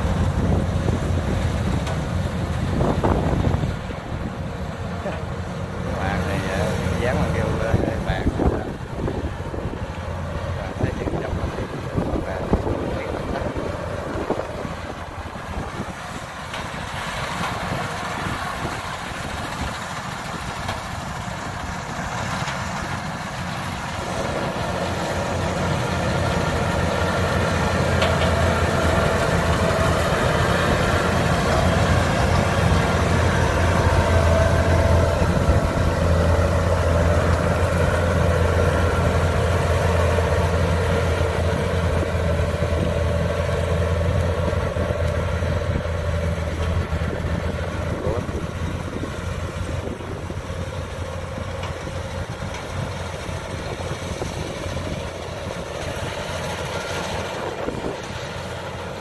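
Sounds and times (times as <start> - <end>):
combine harvester engine humming: 0.0 - 59.0.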